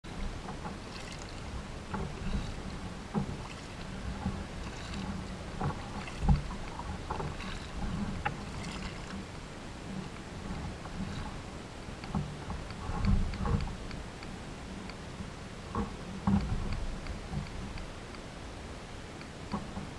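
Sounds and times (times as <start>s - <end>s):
paddle splashing water: 0.0s - 19.9s.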